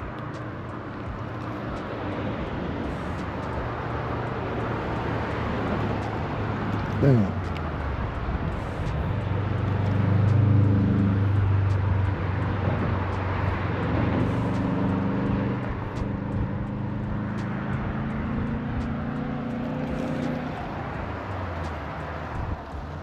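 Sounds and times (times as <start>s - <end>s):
engine running low hum: 0.0s - 23.0s.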